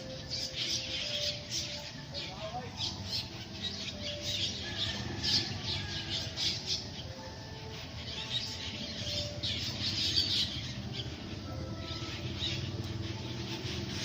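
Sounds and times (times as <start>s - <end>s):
birds squawking: 0.0s - 14.0s.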